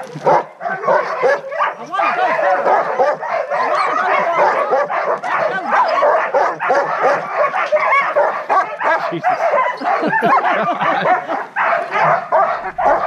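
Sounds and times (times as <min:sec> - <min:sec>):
sled dogs barking and yelping: 0:00.0 - 0:13.0.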